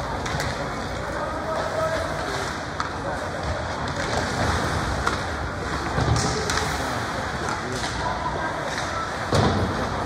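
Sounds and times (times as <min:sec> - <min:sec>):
hubbub of distant voices: 0:00.0 - 0:10.0.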